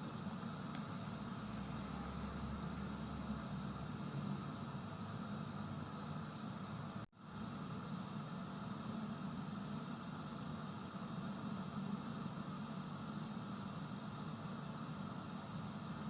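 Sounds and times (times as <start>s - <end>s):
gas heater hissing: 0.0s - 16.0s.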